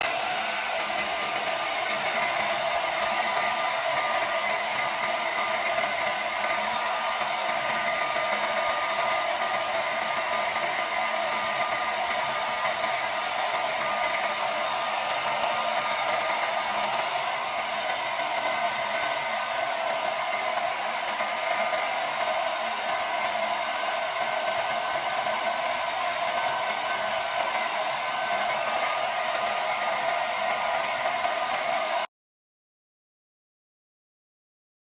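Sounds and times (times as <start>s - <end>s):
hair dryer blowing: 0.0s - 32.1s.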